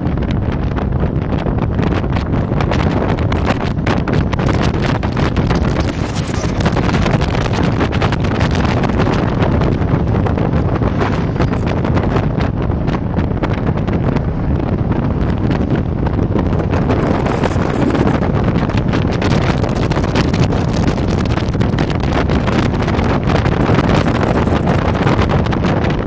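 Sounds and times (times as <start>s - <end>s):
boat engine: 0.0s - 26.0s
wind buffeting microphone: 0.0s - 26.0s.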